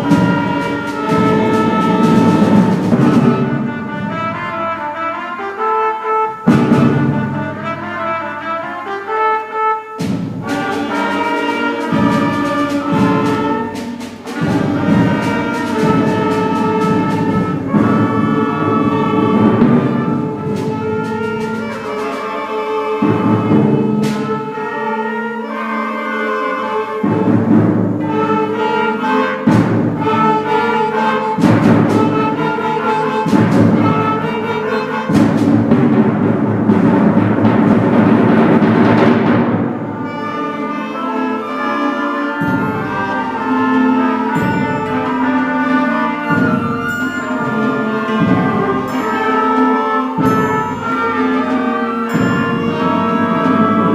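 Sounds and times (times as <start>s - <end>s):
sharp percussion strokes: 0.0s - 4.4s, 10.0s - 53.9s
concert band playing: 0.0s - 53.9s.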